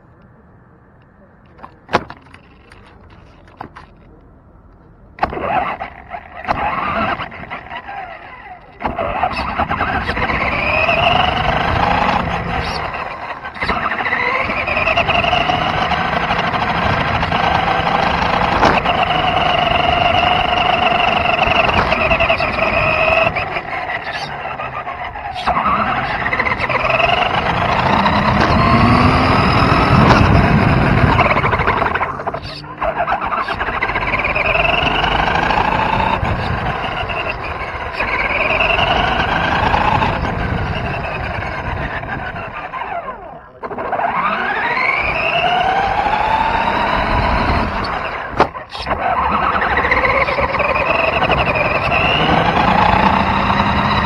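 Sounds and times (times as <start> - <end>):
clicks: 0.0 - 54.0
rc car motor whining: 5.2 - 54.0.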